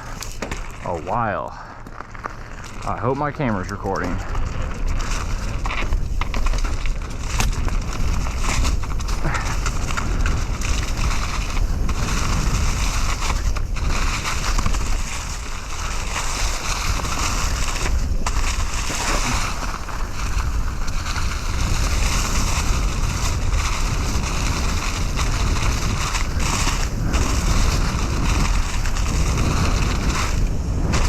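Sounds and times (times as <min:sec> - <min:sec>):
tyres crunching through leaves: 0:00.0 - 0:31.0
wind rushing over microphone: 0:02.8 - 0:31.0.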